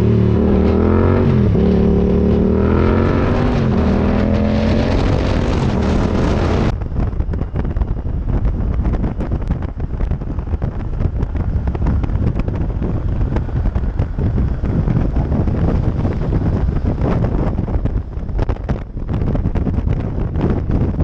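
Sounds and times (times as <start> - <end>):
motorcycle engine running: 0.0 - 21.0
wind buffeting on microphone: 0.0 - 21.0.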